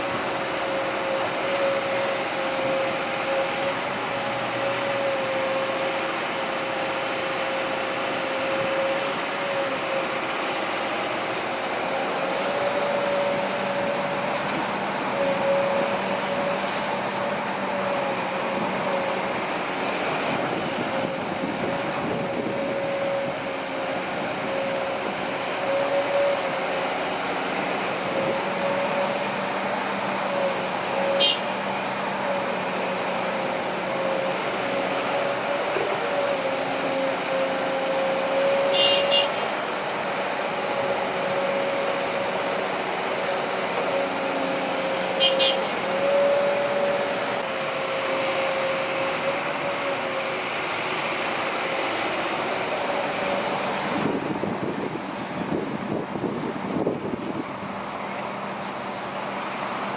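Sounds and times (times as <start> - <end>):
diesel machinery whining: 0.0 - 59.9.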